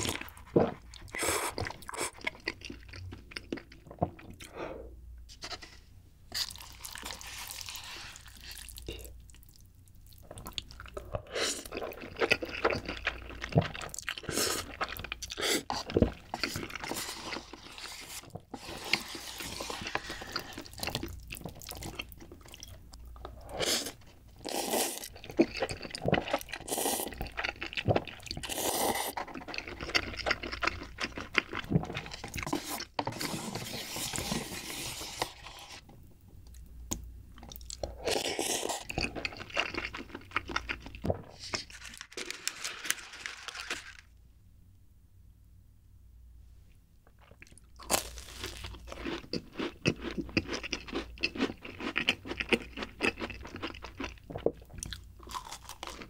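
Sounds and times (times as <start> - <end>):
chewing noodles: 0.0 - 4.5, 6.4 - 35.8, 37.4 - 41.8, 47.2 - 56.0.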